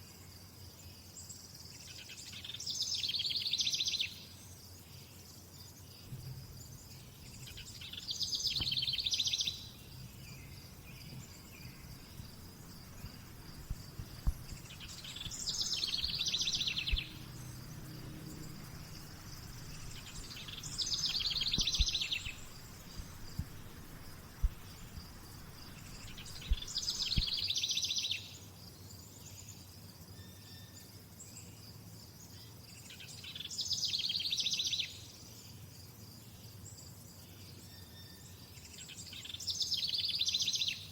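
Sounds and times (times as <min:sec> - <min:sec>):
high-pitched insect trill: 0:00.0 - 0:40.9
songbird trilled song: 0:00.9 - 0:05.2, 0:05.8 - 0:31.6, 0:32.7 - 0:35.6, 0:36.2 - 0:40.9.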